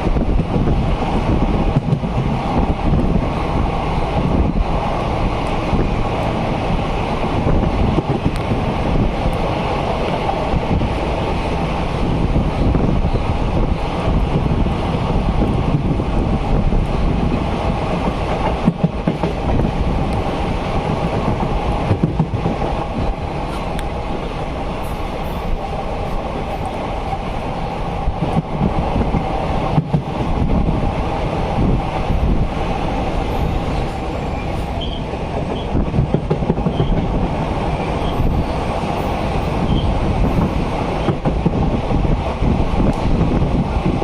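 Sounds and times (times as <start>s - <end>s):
train wheels clattering on track: 0.0s - 44.0s.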